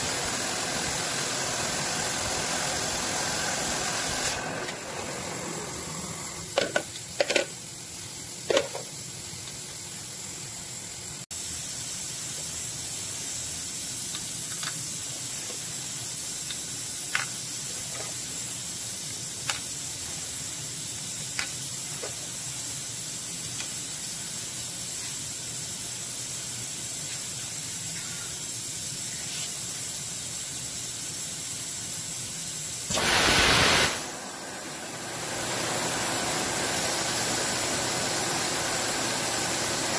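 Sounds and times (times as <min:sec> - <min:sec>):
spray nozzle hissing: 0:00.0 - 0:06.6, 0:11.4 - 0:39.9.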